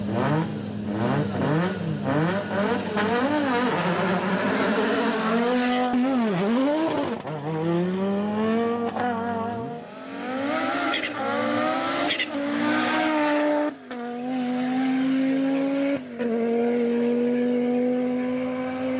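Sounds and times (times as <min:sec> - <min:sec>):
rally car engine revving: 0:00.0 - 0:18.9.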